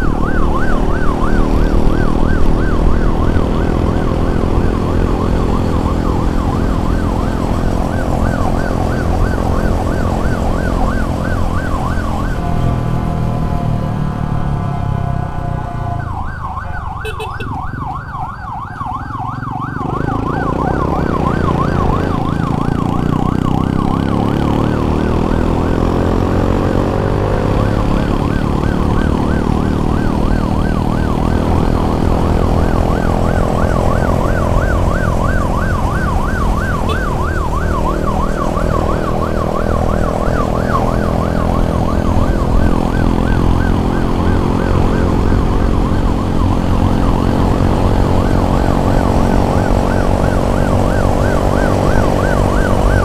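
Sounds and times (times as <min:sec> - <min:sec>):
ambulance siren yelping: 0:00.0 - 0:53.0
vehicle and road rumble: 0:00.0 - 0:53.0.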